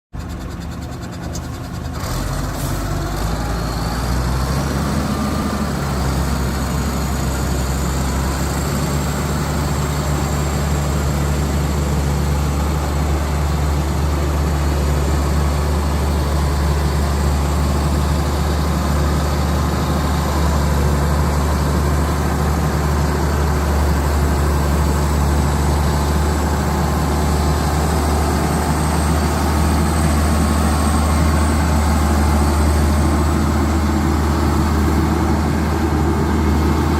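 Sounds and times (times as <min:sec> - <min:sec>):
diesel engine idling: 0:00.1 - 0:36.9.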